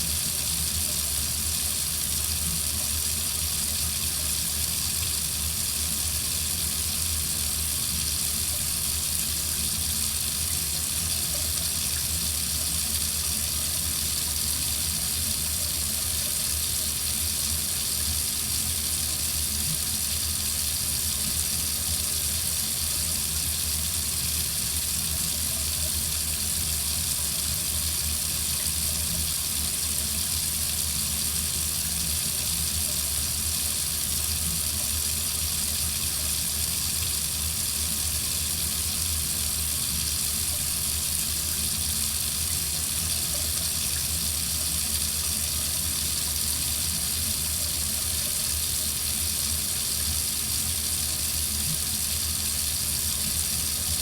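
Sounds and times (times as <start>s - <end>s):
faucet running into a sink: 0.0s - 54.0s.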